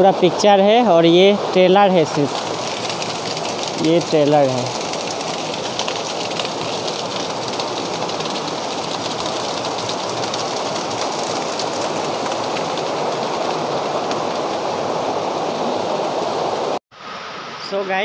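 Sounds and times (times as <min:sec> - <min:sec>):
stream running over boulders: 0:00.0 - 0:18.0
waterfall rushing: 0:00.0 - 0:18.0.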